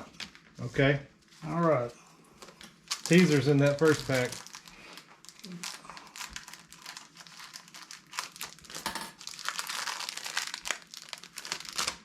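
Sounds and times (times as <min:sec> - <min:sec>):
wrapper crinkling and tearing: 0:00.0 - 0:00.6, 0:02.4 - 0:12.0.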